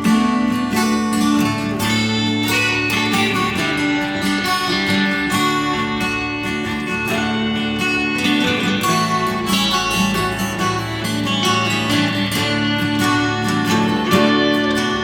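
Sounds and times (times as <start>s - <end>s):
acoustic guitar background music: 0.0s - 15.0s.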